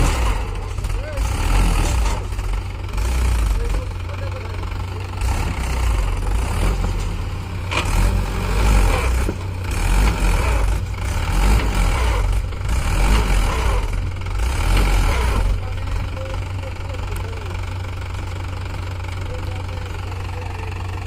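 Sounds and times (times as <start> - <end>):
tractor diesel engine straining: 0.0 - 21.0.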